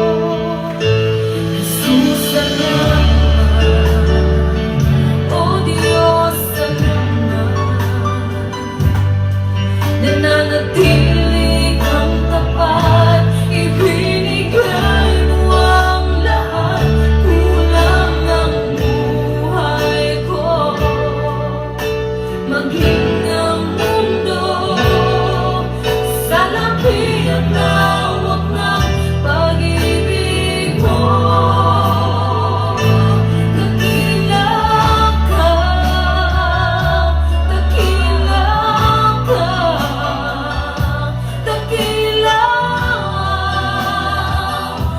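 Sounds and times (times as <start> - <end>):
gospel worship song: 0.0 - 44.9.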